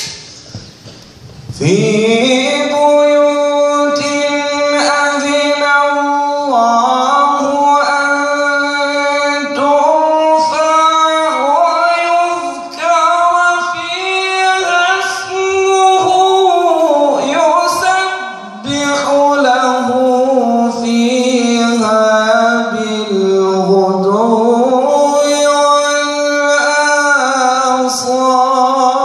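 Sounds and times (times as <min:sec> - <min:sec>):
man chanting melodically: 0:01.4 - 0:29.0.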